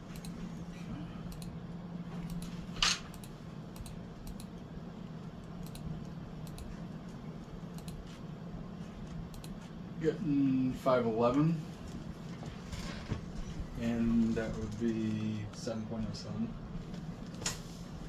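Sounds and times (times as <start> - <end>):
ceiling fan motor hum: 0.0 - 18.0.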